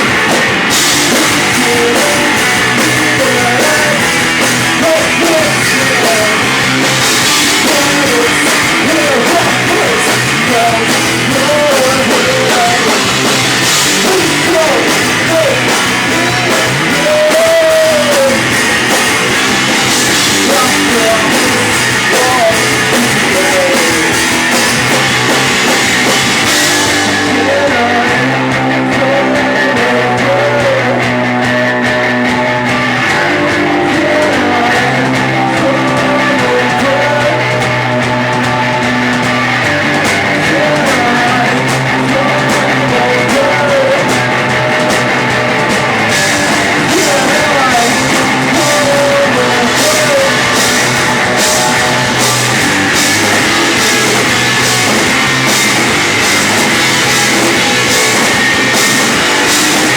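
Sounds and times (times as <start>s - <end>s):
rock music with singing: 0.0s - 59.9s.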